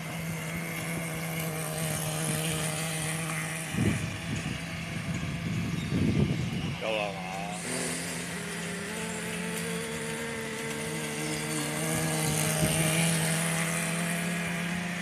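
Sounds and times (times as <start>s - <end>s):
faint high whine: 0.0s - 15.0s
model boat motor humming: 0.0s - 15.0s.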